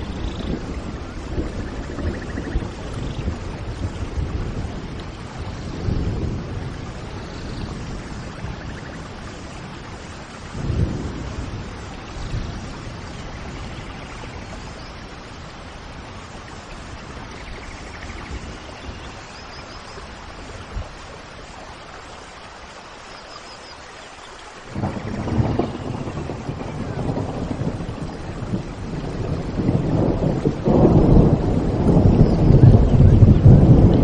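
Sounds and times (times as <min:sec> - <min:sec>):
low thunder rumble: 0:00.0 - 0:21.2, 0:24.7 - 0:34.0
steady rain: 0:00.0 - 0:34.0.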